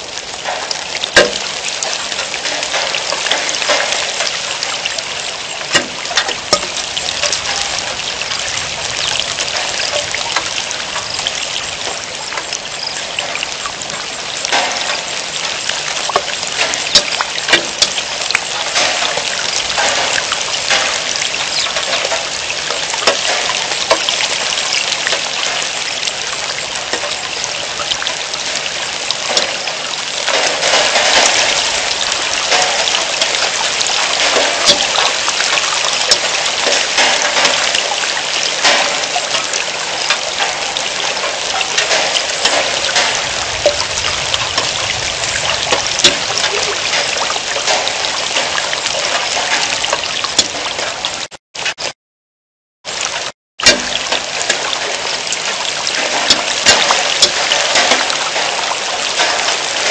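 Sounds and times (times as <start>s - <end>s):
rain falling steadily: 0.0s - 51.8s, 52.9s - 59.9s
raindrop impacts: 0.0s - 51.9s, 52.9s - 59.9s.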